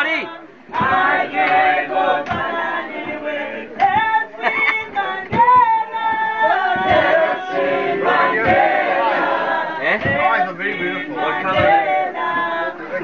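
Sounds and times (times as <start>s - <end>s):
choir singing: 0.7s - 13.0s.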